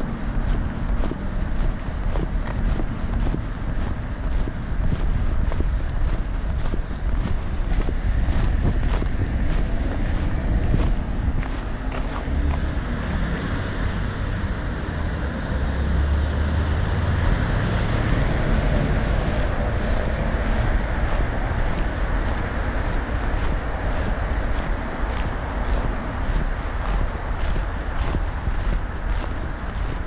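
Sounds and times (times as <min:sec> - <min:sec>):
footsteps on pavement: 0:00.0 - 0:30.0
road traffic passing: 0:00.0 - 0:30.0.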